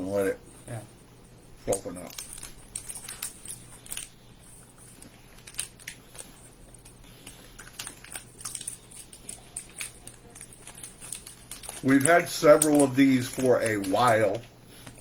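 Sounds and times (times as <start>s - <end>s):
person chewing candy: 1.8s - 15.0s.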